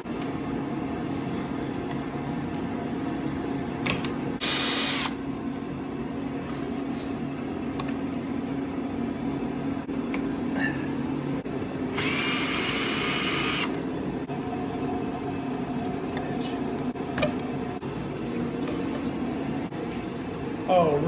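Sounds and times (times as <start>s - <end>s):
low workshop hum: 0.0s - 21.0s.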